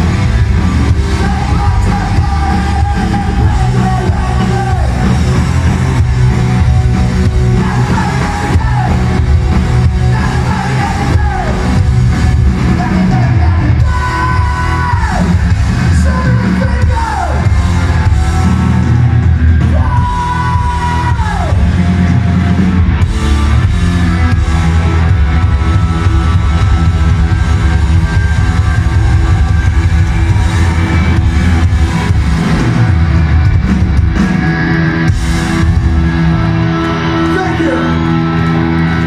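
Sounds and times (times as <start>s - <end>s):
live hard rock band: 0.0s - 39.0s.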